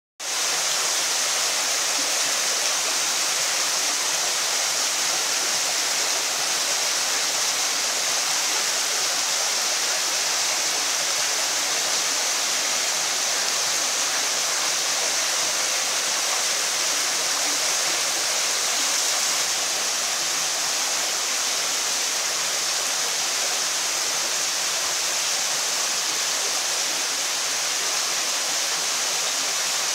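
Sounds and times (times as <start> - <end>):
water pouring over waterfall: 0.2 - 29.9.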